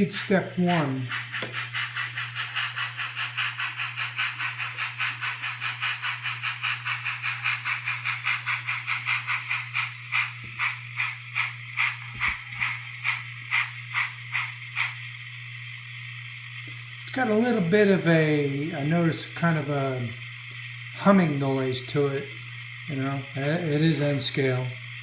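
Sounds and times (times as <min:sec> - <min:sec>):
model train steam chuffs: 0:00.0 - 0:25.0
steady low hum: 0:00.0 - 0:25.0.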